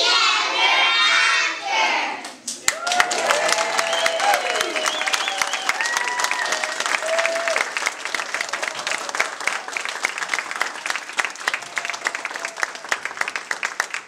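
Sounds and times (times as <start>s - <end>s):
audience applauding: 2.5s - 14.0s.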